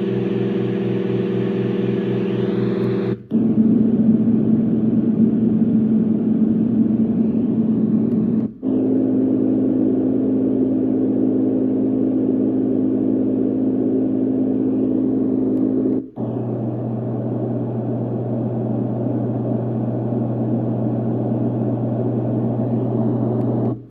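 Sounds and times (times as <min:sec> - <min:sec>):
low hum: 0:00.0 - 0:23.9
white noise machine rushing: 0:00.0 - 0:23.9.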